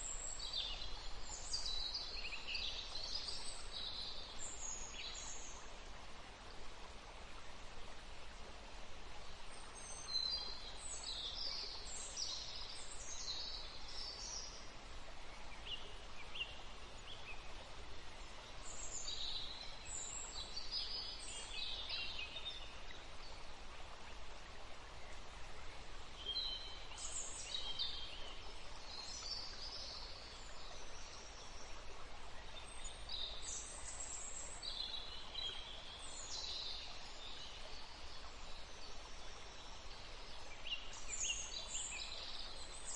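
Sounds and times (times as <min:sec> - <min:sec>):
steady background hiss: 0:00.0 - 0:42.9.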